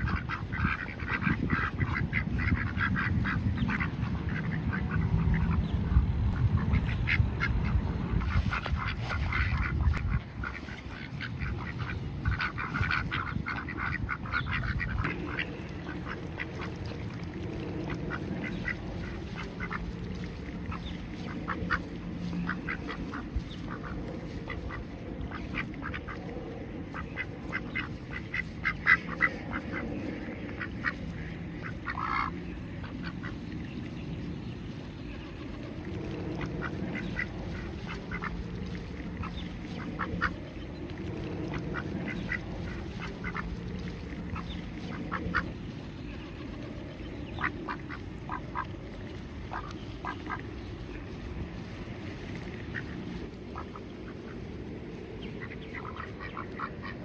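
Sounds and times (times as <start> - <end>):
ducks quacking: 0.0 - 34.0, 34.9 - 57.0
low rumble: 0.0 - 57.0.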